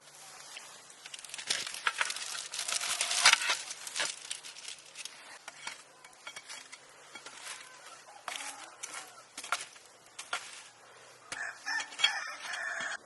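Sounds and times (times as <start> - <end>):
rapid small clicks and scrapes: 0.4 - 13.0.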